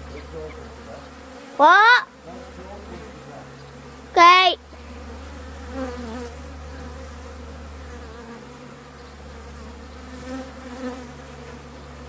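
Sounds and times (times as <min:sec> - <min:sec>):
bees buzzing: 0:00.0 - 0:12.0
single bees whining past: 0:00.0 - 0:12.0.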